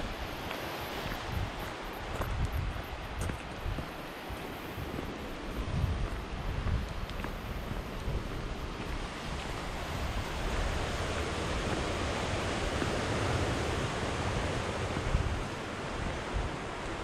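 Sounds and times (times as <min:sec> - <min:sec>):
sea surf washing ashore: 0:00.0 - 0:17.0
wind buffeting microphone: 0:00.0 - 0:17.0.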